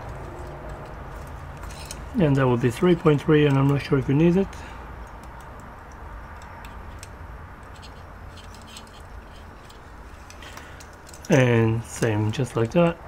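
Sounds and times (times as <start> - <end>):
small clicks and handling noise: 0.0 - 13.0
steady low hum: 0.0 - 13.0.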